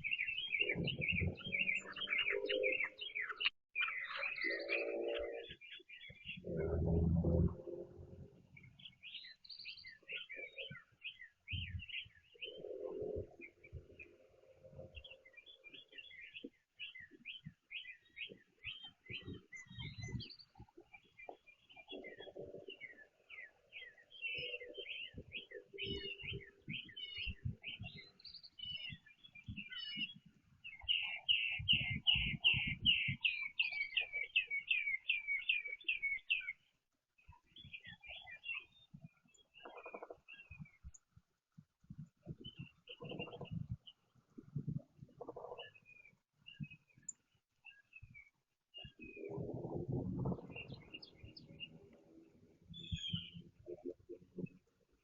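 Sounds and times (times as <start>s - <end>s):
small songbirds chirping: 0.0s - 55.0s.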